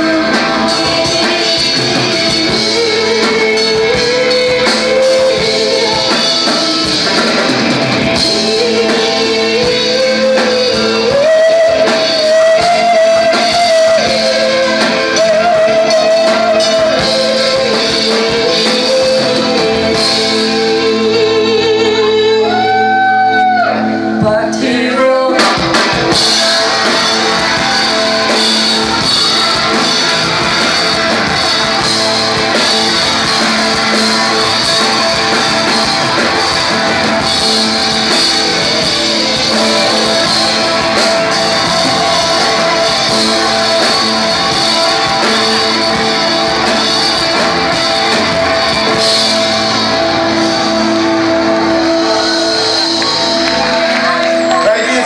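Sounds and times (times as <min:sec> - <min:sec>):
woman singing: 0:00.0 - 0:23.0, 0:24.1 - 0:49.9
live rock band playing: 0:00.0 - 0:55.0.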